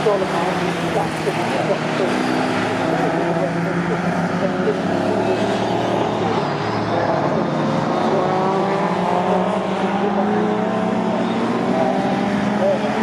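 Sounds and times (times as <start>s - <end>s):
racing car engines accelerating: 0.0s - 13.0s.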